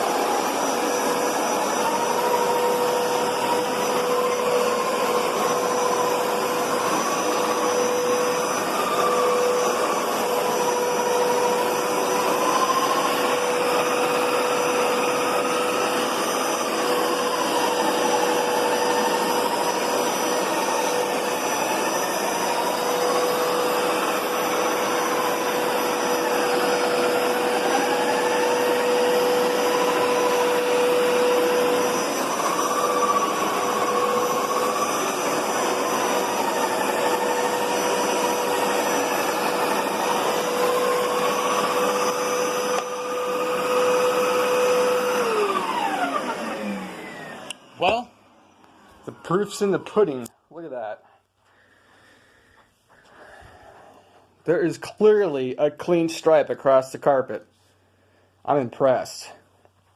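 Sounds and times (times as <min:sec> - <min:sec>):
carpet cleaner running: 0:00.0 - 0:50.8.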